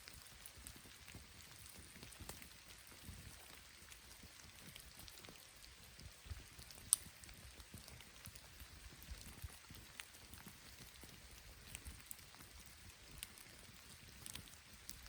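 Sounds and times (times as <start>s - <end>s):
light rain pattering: 0.0s - 15.0s.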